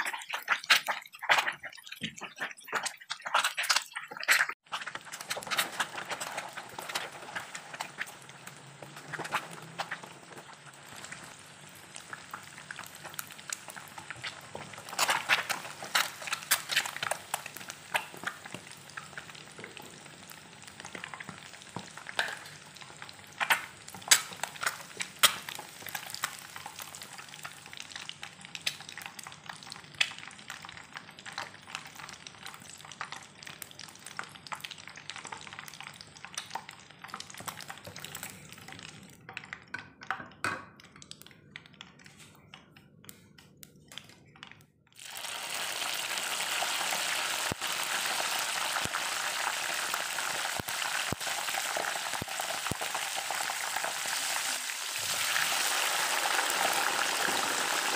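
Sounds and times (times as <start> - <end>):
chillies sizzling in oil: 0.0 - 39.0, 45.0 - 57.9
eggs frying crackling and popping: 0.0 - 57.9.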